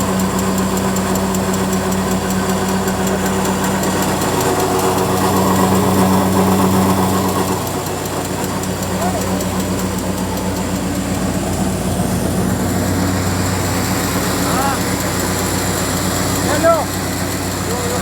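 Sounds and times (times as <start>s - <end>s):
flour mill humming: 0.0s - 18.0s
light regular ticking: 0.0s - 18.0s
tractor engine running: 0.0s - 18.0s.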